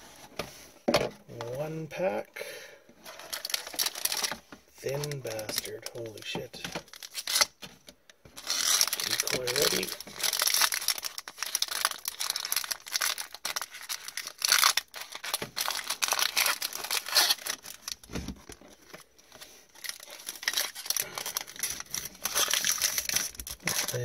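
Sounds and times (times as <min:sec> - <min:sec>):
foil wrapper crinkling and tearing: 0:03.0 - 0:07.7, 0:08.4 - 0:24.0.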